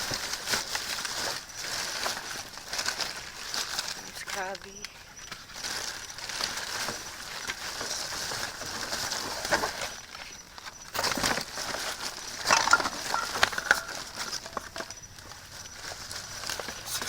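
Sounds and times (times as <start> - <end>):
plastic bags rustling and crinkling: 0.0 - 17.0
sharp crackles and knocks: 0.0 - 17.0.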